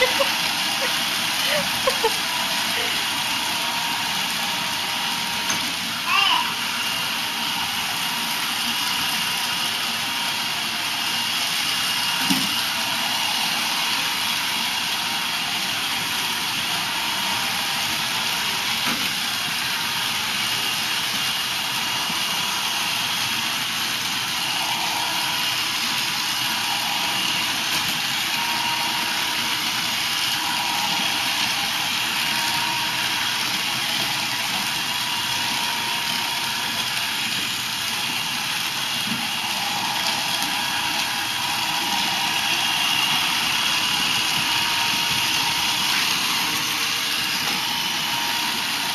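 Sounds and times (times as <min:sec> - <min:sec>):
robot vacuum whirring: 0:00.0 - 0:48.9.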